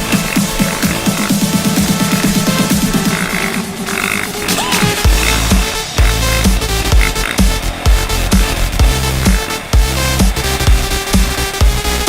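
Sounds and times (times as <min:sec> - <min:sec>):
heavy bass kick drum: 0:00.0 - 0:03.2, 0:05.0 - 0:12.0
electronic dance music: 0:00.0 - 0:12.0.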